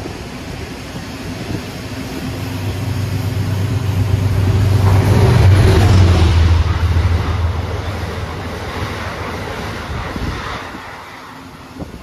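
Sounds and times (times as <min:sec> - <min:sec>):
diesel locomotive engine drone: 0:00.0 - 0:12.0
passing train rushing: 0:00.0 - 0:12.0.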